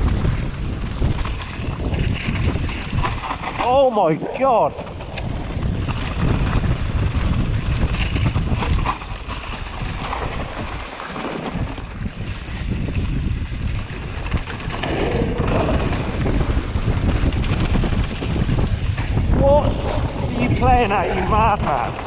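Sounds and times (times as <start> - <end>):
bike tyres rumbling over rocks: 0.0 - 22.0
wind buffeting microphone: 0.0 - 22.0.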